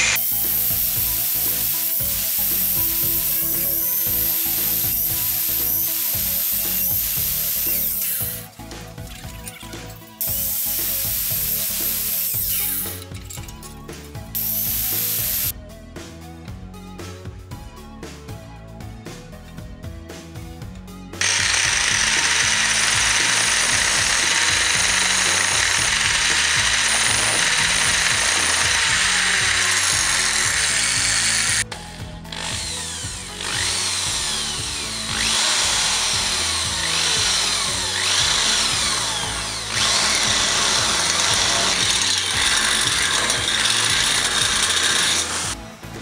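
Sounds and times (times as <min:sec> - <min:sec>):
electric drill grinding into steel: 0:00.0 - 0:15.6, 0:21.2 - 0:45.6.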